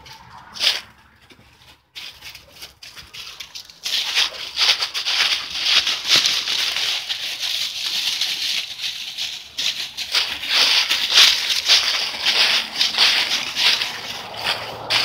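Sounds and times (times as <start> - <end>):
footsteps through dry leaves: 0.0 - 15.0.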